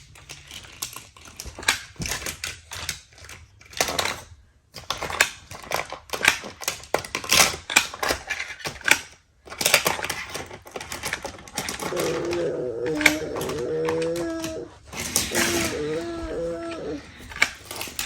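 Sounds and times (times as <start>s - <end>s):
toy cars rattling on plastic track: 0.0s - 18.0s.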